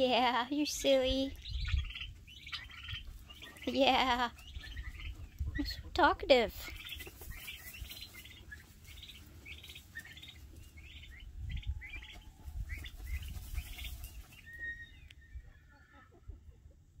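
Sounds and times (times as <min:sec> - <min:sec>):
turkey poults peeping: 0:00.8 - 0:17.0.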